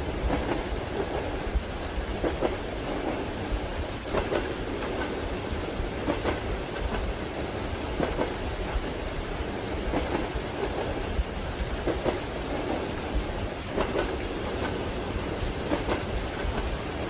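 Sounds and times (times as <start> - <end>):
rain falling: 0.0 - 17.0
train rumbling: 0.0 - 17.0
train wheels knocking on rails: 0.1 - 17.0.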